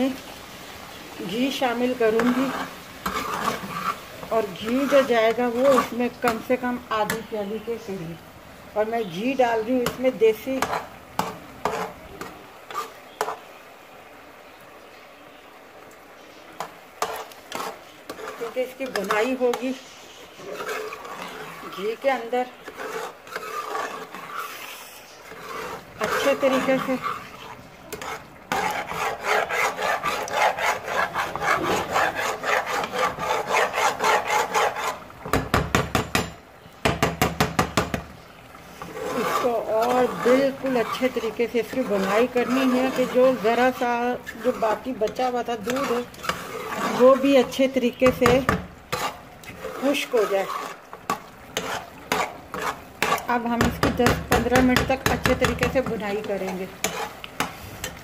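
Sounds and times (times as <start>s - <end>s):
pot hissing on heat: 0.0s - 13.6s, 16.2s - 36.4s, 37.2s - 58.0s
metal spoon scraping a pot: 1.3s - 7.3s, 9.0s - 13.5s, 16.6s - 36.4s, 38.6s - 58.0s.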